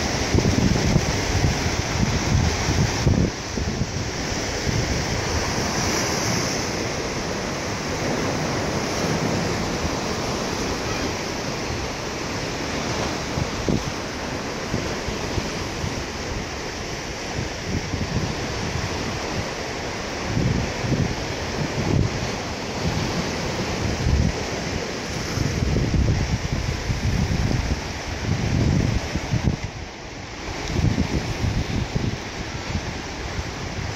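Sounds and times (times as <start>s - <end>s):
ocean surf washing ashore: 0.0s - 33.9s
wind gusting on microphone: 0.0s - 33.9s.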